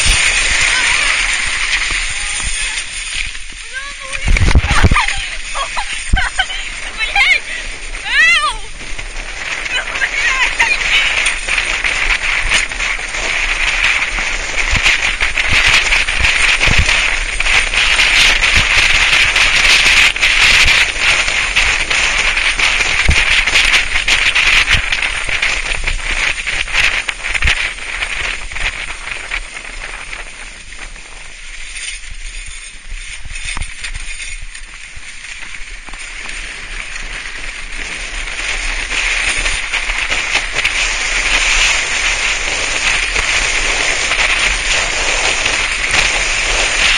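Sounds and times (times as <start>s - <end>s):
sledge scraping over snow: 0.0s - 46.9s.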